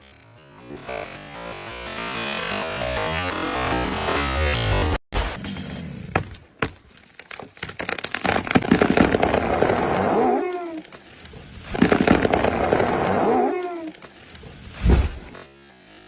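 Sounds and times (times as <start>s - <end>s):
tree trunk cracking and creaking: 0.0s - 16.0s.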